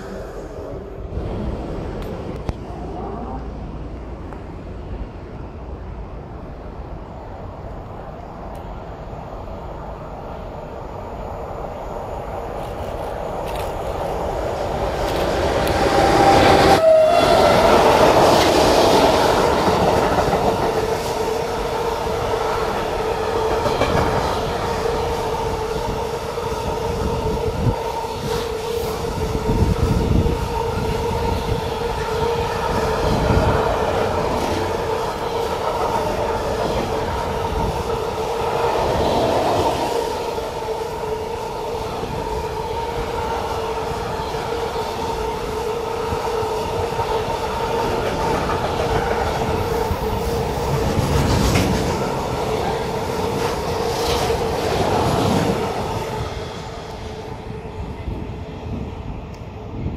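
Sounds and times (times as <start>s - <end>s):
constant whine of train: 0.0s - 59.9s
wheels rumbling on rail: 0.0s - 59.9s.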